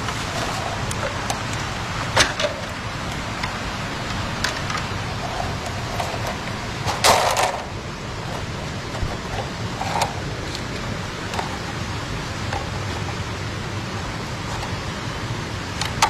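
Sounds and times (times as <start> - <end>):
bamboo strips rustling: 0.0 - 16.0
stream water running: 0.0 - 16.0.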